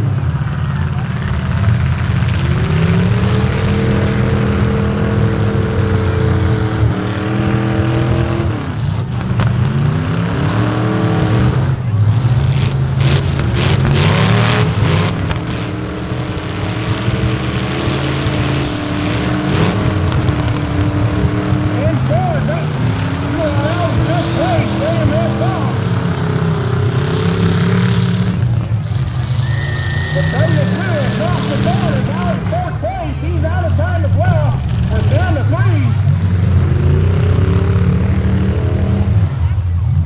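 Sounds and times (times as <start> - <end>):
truck engines revving: 0.0 - 40.0.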